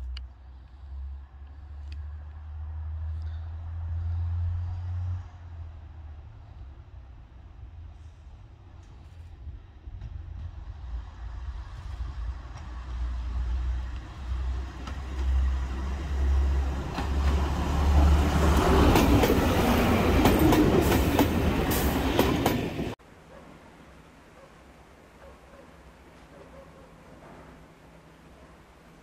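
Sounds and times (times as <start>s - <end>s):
low diesel train drone: 0.0s - 29.0s.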